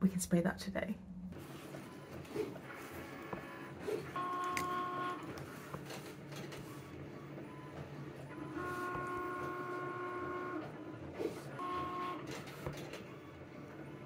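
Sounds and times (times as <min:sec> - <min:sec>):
small machine motor whining: 0:01.6 - 0:14.0.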